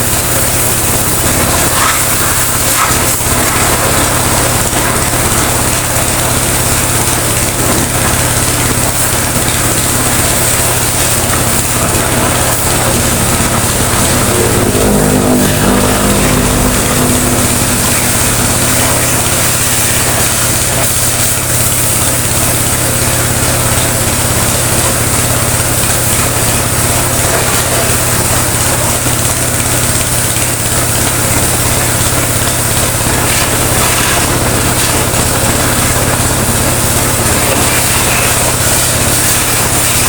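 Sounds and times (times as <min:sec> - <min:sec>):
high-pressure water jet hiss: 0:00.0 - 0:40.0
pressure washer pump hum: 0:00.0 - 0:40.0.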